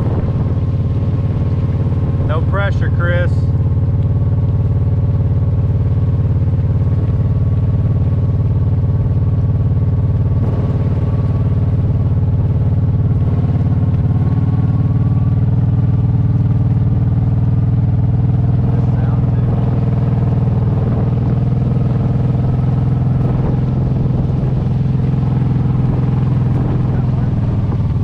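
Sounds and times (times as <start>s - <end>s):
atv engine running loud: 0.0s - 28.0s.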